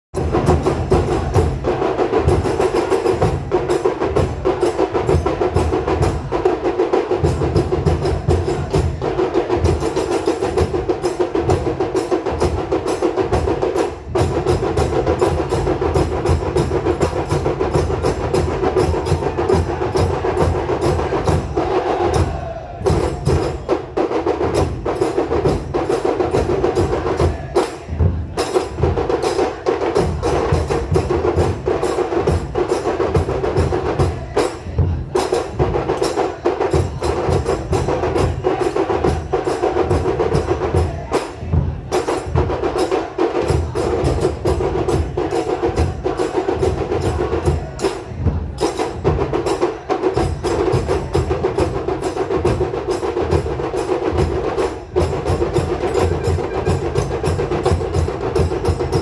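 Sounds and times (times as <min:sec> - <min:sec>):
drum troupe playing: 0:00.2 - 0:59.0.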